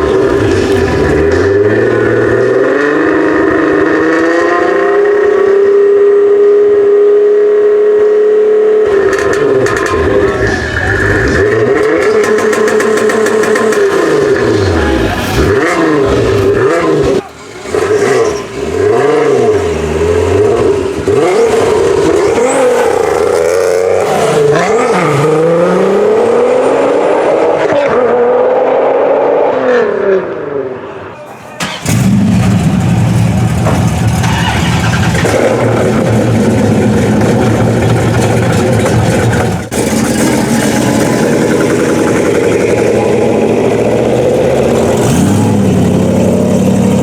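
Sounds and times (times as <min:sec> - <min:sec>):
car engine revving: 0:00.0 - 0:30.5, 0:31.6 - 0:47.0.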